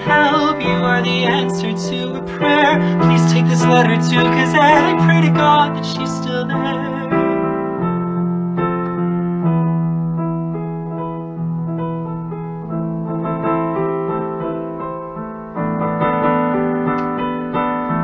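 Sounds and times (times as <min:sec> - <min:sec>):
digital piano chords: 0:00.0 - 0:18.0.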